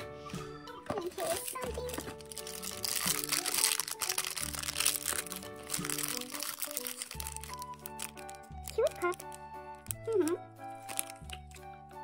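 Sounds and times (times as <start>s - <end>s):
background music: 0.0s - 12.0s
foil wrapper crinkling: 1.0s - 11.6s.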